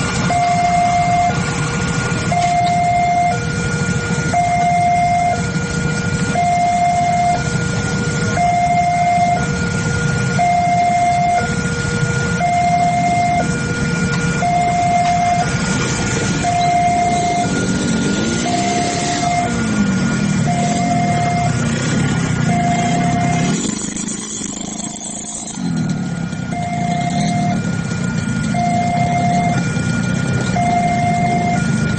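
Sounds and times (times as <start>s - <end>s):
passing train rumble: 0.0s - 31.9s
level crossing two-tone alarm: 0.1s - 25.7s, 26.4s - 29.8s, 30.5s - 31.9s.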